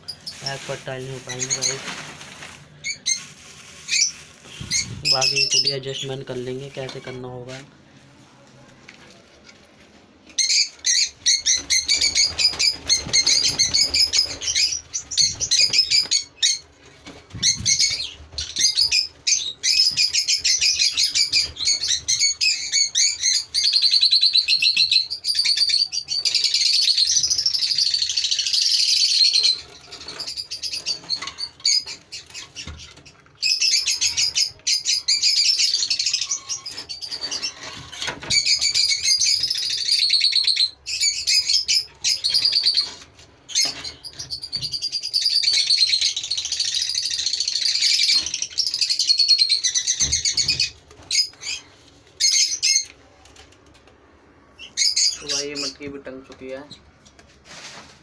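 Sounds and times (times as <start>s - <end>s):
lovebirds chirping: 0.0s - 8.0s, 10.2s - 53.2s, 54.4s - 56.9s.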